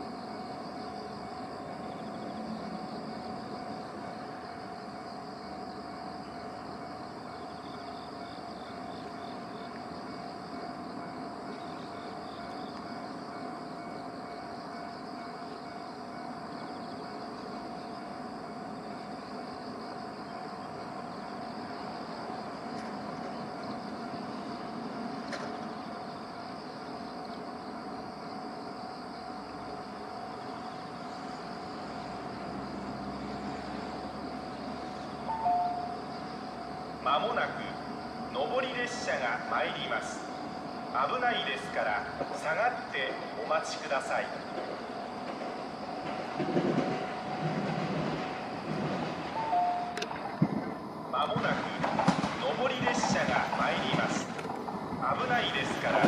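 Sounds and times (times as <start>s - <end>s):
level-crossing alarm ringing: 0.0s - 56.0s
outdoor background noise: 0.0s - 56.0s.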